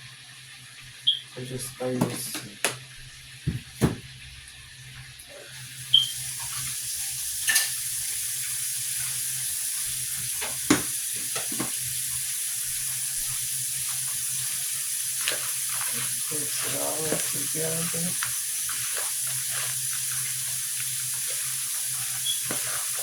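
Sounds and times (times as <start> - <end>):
chicken sizzling in hot oil: 4.3 - 23.0.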